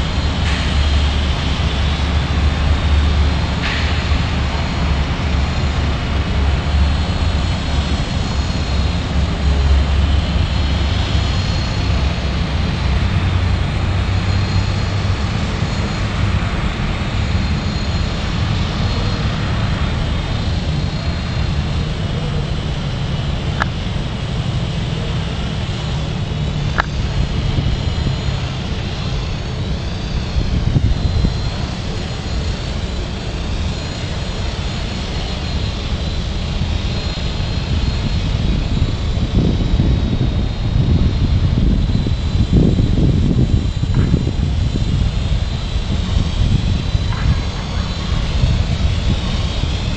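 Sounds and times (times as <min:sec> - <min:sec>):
heavy low rumble: 0:00.0 - 0:49.9
rc helicopter motor and rotor: 0:00.0 - 0:49.9.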